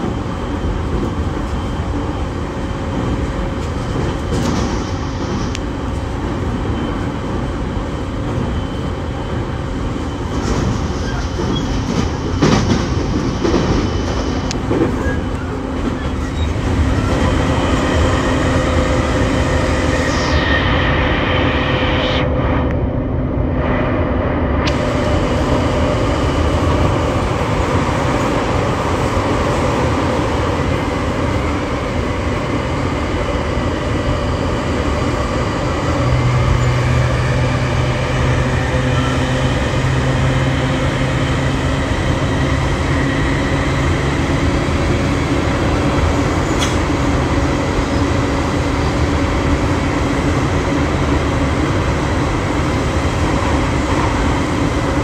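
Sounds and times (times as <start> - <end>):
train wheels rumbling on rail: 0.0 - 20.1, 22.3 - 55.0
train drive humming: 0.0 - 55.0.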